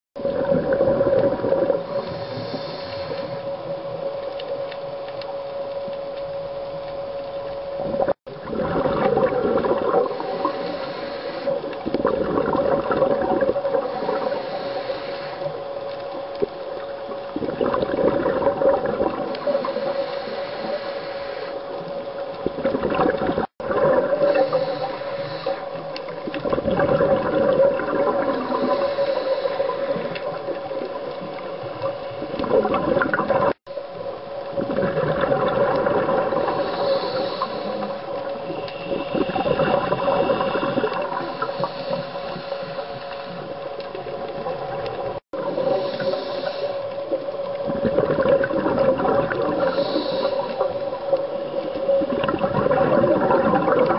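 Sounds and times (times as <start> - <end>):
steady hum: 0.2 - 53.9
underwater regulator bubbles gurgling: 0.2 - 53.9.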